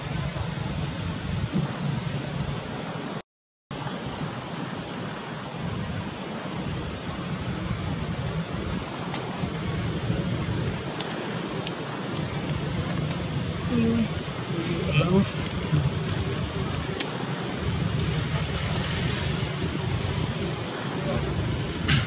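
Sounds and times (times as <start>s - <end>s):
rushing outdoor background noise: 0.0s - 22.0s.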